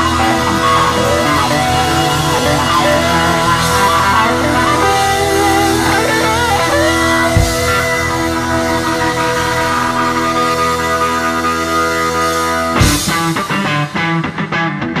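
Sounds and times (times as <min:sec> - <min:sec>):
guitar music: 0:00.0 - 0:15.0.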